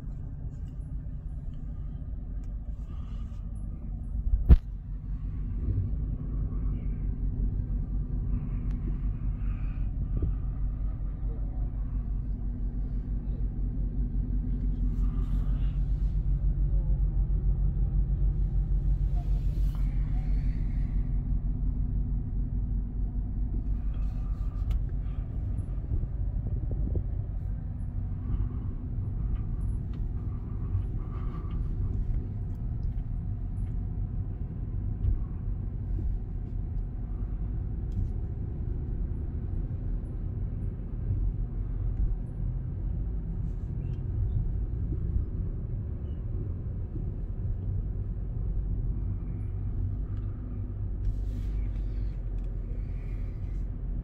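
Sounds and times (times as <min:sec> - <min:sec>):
car driving slowly: 0:00.0 - 0:54.0.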